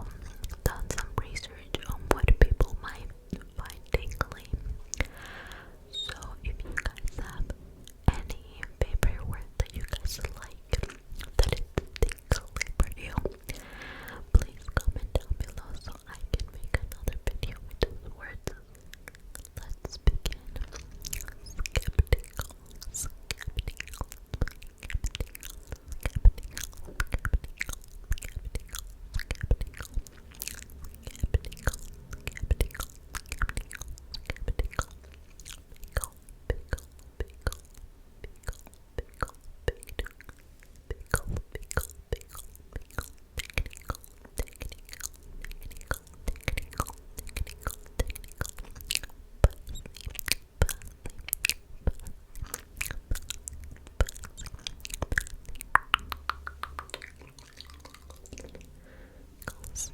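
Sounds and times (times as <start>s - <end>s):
wet lip and tongue clicks: 0.0s - 5.3s, 6.0s - 59.9s.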